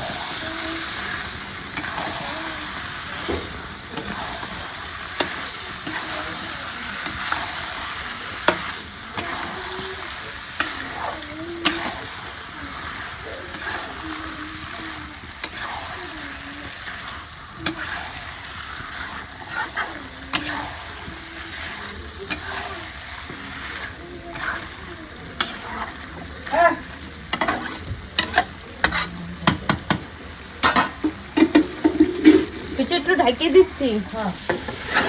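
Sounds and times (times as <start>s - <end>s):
chicken sizzling in oil: 0.0s - 35.0s
spatula scraping and knocking pan: 0.0s - 35.0s.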